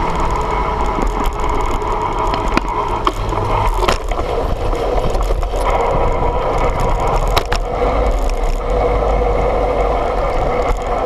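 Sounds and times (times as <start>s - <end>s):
bike tyres rolling on asphalt: 0.0s - 11.0s.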